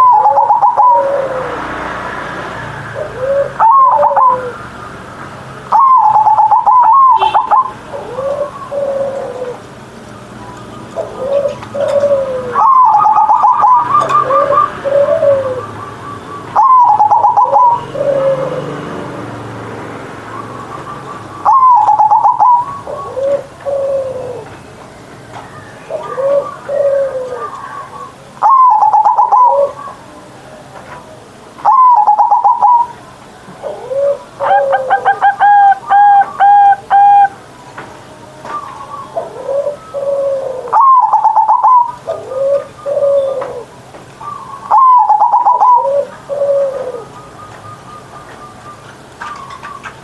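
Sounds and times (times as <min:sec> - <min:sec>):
dove cooing: 0:00.0 - 0:01.9, 0:02.8 - 0:04.6, 0:05.7 - 0:09.7, 0:10.9 - 0:18.8, 0:20.3 - 0:24.6, 0:25.5 - 0:30.2, 0:31.6 - 0:37.4, 0:38.4 - 0:50.0.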